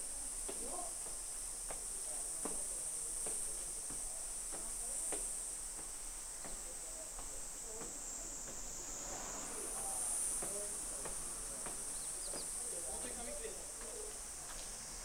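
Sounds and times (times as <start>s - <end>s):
high-pitched insect chorus: 0.0s - 15.0s
footsteps on concrete stairs: 0.4s - 8.6s, 9.8s - 14.6s.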